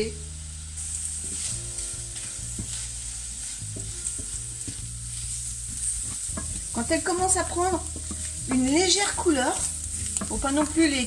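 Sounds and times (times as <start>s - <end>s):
shrimp sizzling in a frying pan: 0.0s - 11.0s
spoon scraping and knocking pan: 1.1s - 11.0s.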